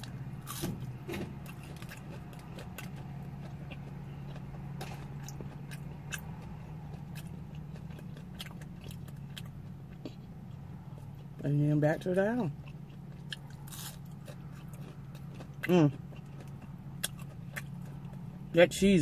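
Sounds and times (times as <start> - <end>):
person chewing crunchy food: 0.0 - 18.6.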